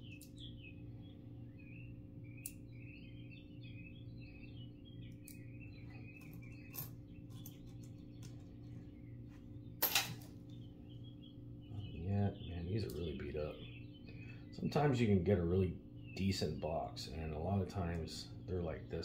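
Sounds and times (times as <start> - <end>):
faint bird chirps: 0.0 - 19.0
steady low hum: 0.0 - 19.0.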